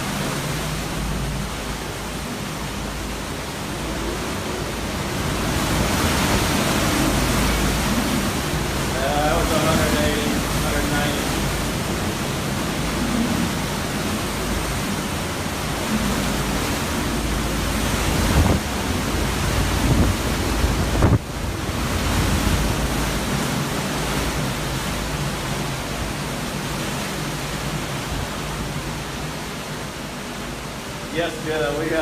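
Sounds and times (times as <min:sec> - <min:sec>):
strong wind buffeting microphone: 0:00.0 - 0:32.0.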